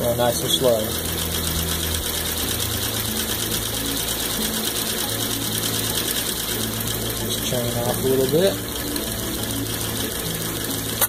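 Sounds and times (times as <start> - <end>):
motor hum: 0.0 - 11.0
sewing machine stitching rattle: 0.0 - 11.0.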